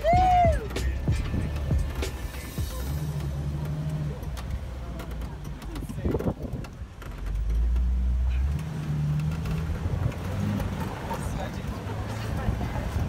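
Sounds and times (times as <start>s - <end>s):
car engine running at low speed: 0.0s - 13.0s.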